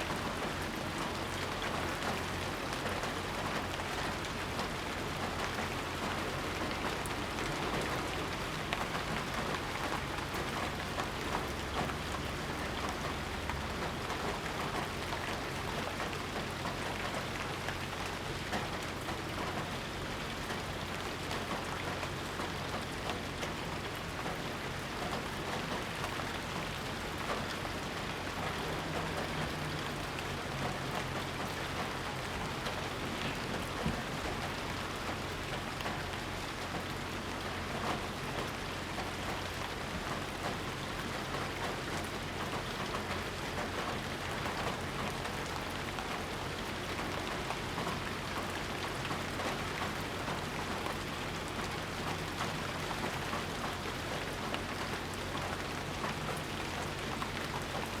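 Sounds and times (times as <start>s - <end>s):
rain pattering on surfaces: 0.0s - 58.0s.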